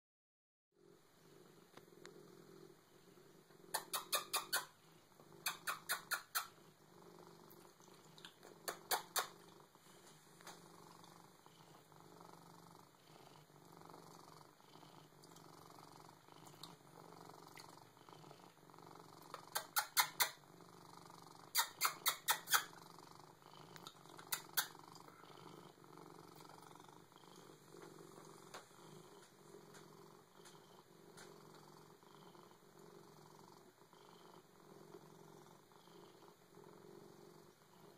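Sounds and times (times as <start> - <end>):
cat purring: 0.8 - 37.9.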